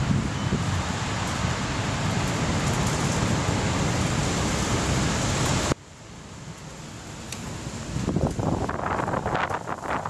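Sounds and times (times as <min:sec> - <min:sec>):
gusty wind buffeting microphone: 0:00.0 - 0:05.8, 0:06.4 - 0:10.0.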